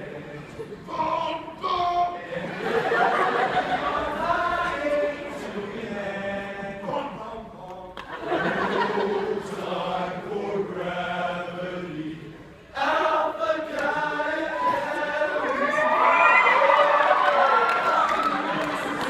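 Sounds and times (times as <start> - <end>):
group singing in unison: 0.0 - 16.7.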